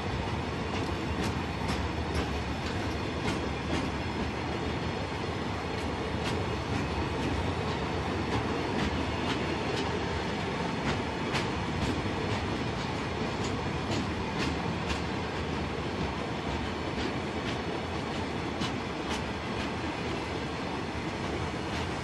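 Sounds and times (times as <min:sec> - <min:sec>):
wheels clicking on rails: 0:00.2 - 0:22.0.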